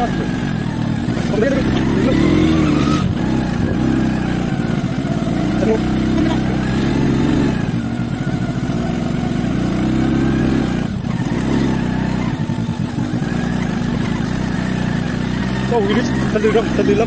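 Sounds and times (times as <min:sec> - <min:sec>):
motor scooter engine running: 0:00.0 - 0:17.0.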